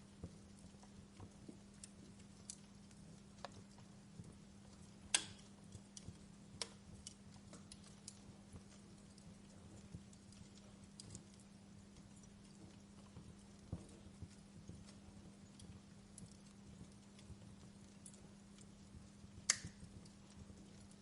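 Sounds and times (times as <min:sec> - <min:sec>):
faint low hum: 0:00.0 - 0:21.0
wood fire crackling softly: 0:00.0 - 0:21.0.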